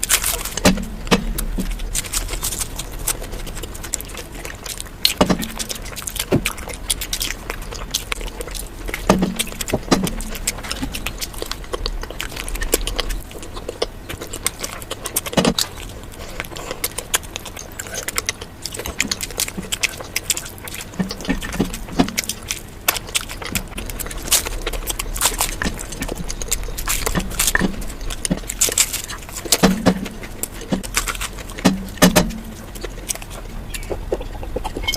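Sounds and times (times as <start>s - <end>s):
chewing food crackling: 0.0s - 34.9s.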